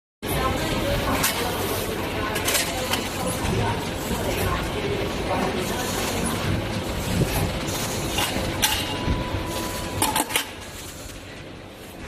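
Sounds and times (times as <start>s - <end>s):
steady machine noise: 0.2s - 12.0s.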